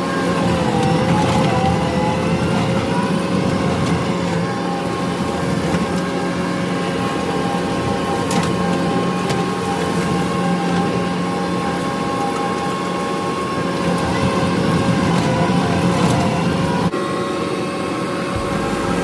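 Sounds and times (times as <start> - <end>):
diesel engine and hydraulics: 0.0 - 19.0.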